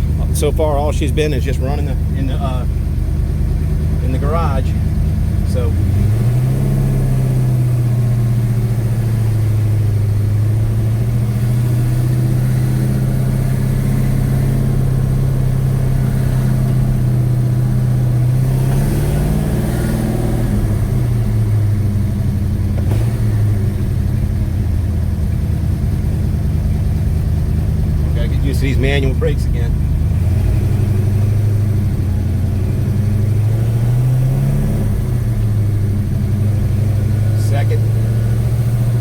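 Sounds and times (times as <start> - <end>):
car engine driving off: 0.0 - 39.0.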